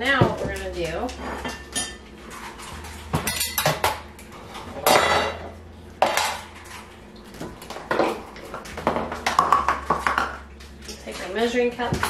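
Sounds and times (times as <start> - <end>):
metal bowl and utensils clanking: 0.0 - 12.0.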